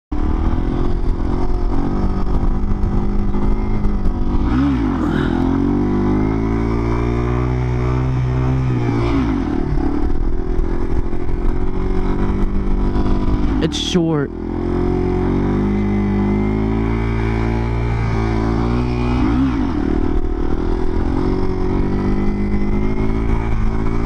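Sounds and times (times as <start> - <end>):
motorcycle engine revving: 0.1 - 24.0.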